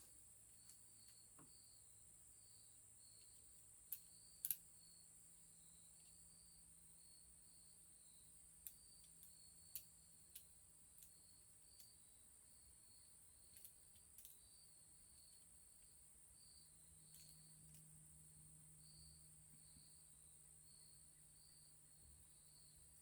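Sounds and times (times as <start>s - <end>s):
faint insects chirping: 0.0s - 23.0s.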